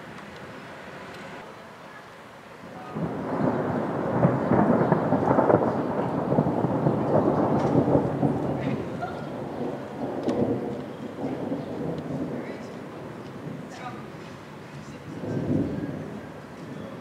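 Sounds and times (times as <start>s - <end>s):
rolling thunder rumble: 2.6s - 17.0s.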